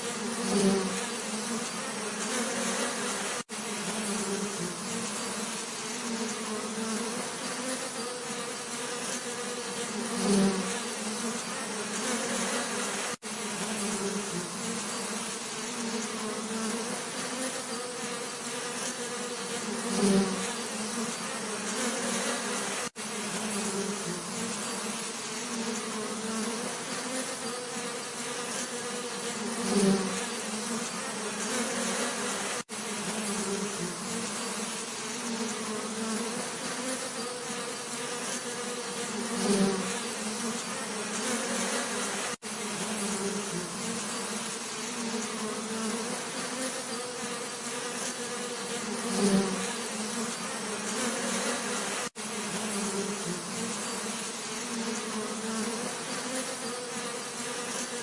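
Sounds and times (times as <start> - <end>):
bee flying past close: 0.0 - 58.0
bees buzzing: 0.0 - 58.0.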